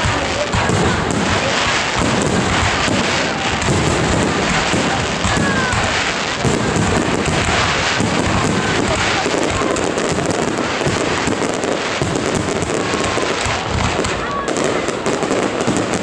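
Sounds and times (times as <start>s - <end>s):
firework crackle: 0.0s - 16.0s
firework shells bursting: 0.0s - 16.0s.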